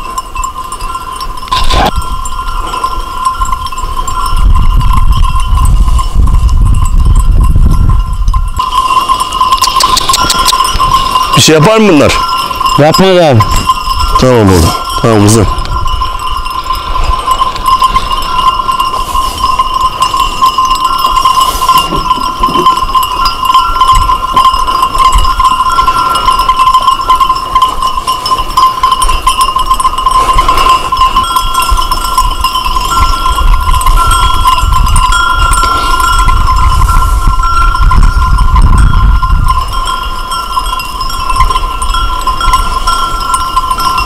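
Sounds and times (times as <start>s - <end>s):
sheep bells jangling: 0.0s - 44.0s.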